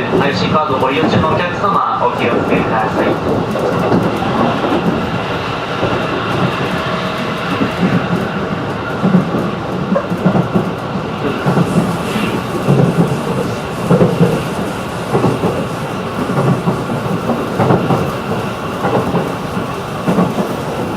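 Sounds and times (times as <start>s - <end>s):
rail joint clacks: 0.0s - 20.9s
train wheels rumbling on rail: 0.0s - 20.9s.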